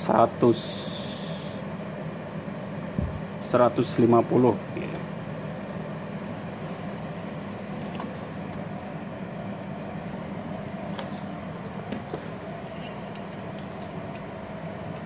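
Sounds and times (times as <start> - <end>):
welder cooling fan humming: 0.0 - 15.0.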